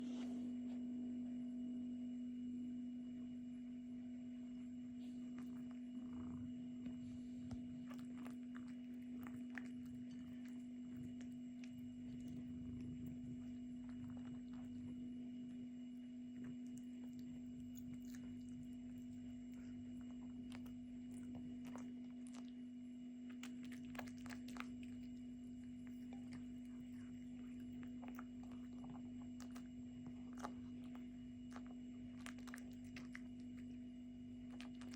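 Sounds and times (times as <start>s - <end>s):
steady low hum: 0.0s - 34.9s
cat chewing and crunching: 4.4s - 34.9s.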